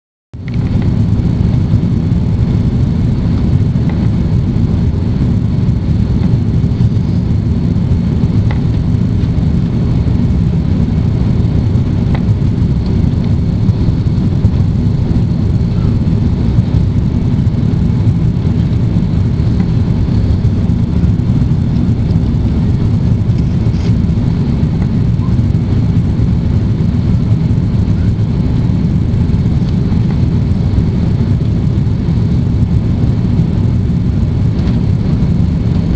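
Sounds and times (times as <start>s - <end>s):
airplane cabin rumble: 0.3s - 35.9s.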